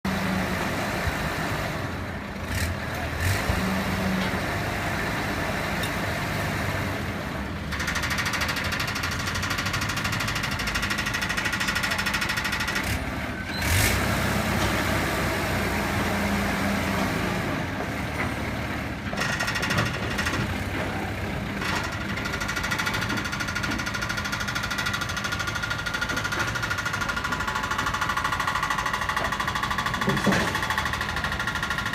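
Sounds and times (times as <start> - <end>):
truck engine running: 0.1 - 31.9.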